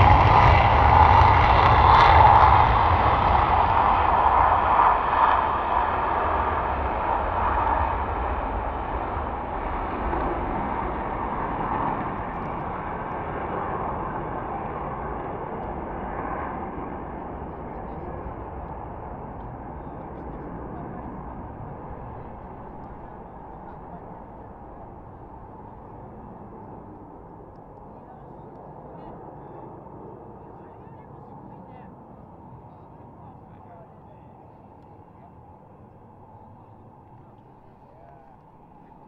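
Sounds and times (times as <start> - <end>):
jet engine rush: 0.0 - 39.0.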